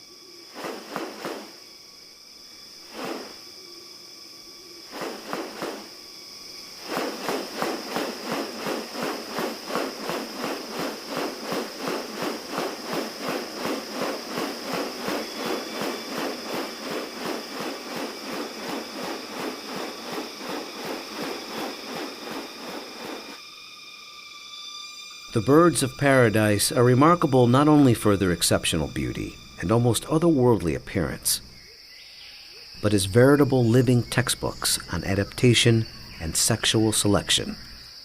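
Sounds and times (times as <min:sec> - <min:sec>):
insects high buzz: 0:00.0 - 0:38.0
insects pulsing chorus: 0:00.0 - 0:38.0.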